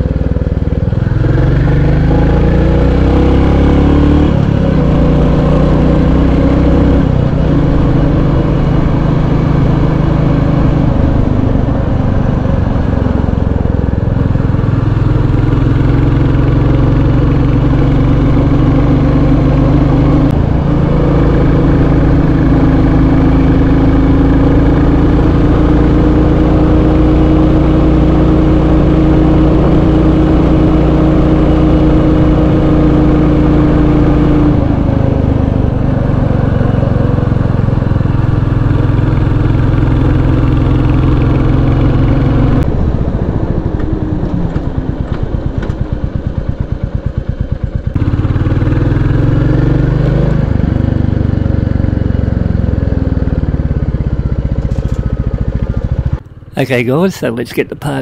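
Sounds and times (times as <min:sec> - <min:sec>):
motorcycle engine accelerating: 0:00.0 - 0:58.0
road noise: 0:00.0 - 0:58.0.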